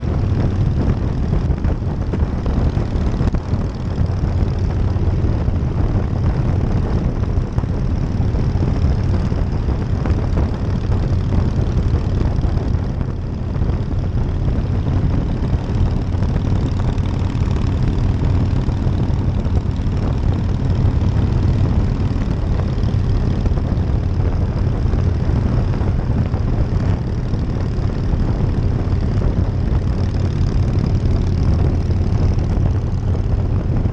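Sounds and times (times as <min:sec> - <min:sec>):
motorcycle engine running: 0:00.0 - 0:33.9
rushing wind: 0:00.0 - 0:33.9.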